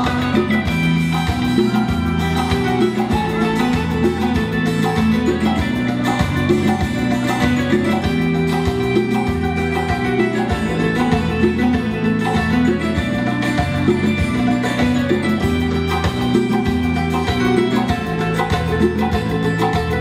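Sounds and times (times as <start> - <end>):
acoustic guitar: 0.0 - 20.0
electric guitar: 0.0 - 20.0
keyboard: 0.0 - 20.0.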